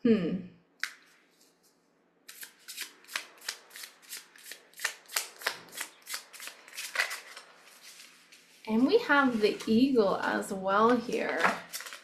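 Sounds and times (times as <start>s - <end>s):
cards being shuffled by hand: 0.8s - 12.0s.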